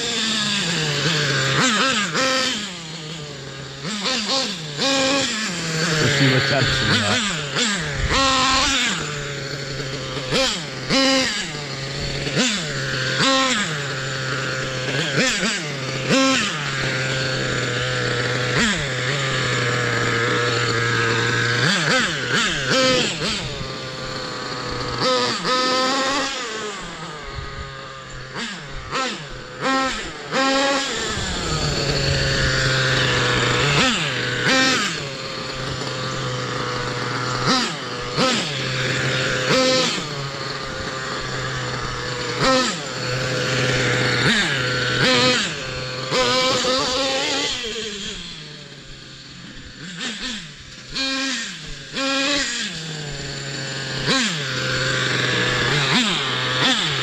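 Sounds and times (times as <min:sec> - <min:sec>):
nitro engine idling: 0:00.0 - 0:57.0
nitro engine revving: 0:00.0 - 0:57.0.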